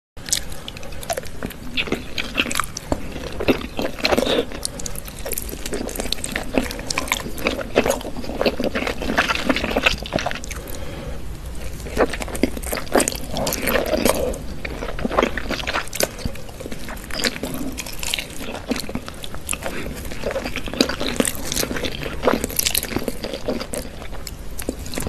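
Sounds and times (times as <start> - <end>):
wet chewing and smacking: 0.2 - 25.0.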